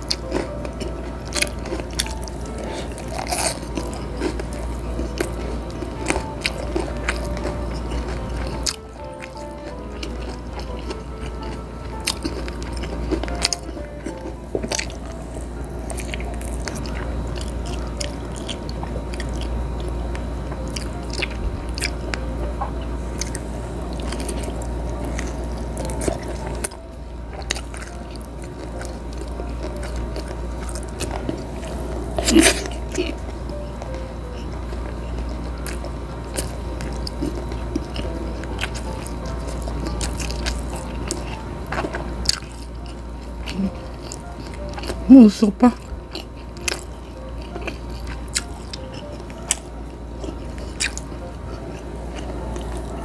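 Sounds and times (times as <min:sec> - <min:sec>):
chewing and mouth smacks: 0:00.0 - 0:45.0, 0:45.8 - 0:53.0.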